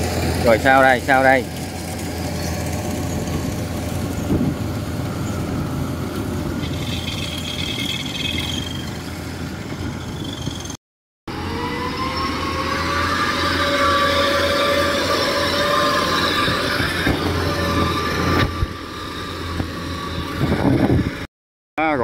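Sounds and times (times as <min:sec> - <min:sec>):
small engine running: 0:00.0 - 0:21.3.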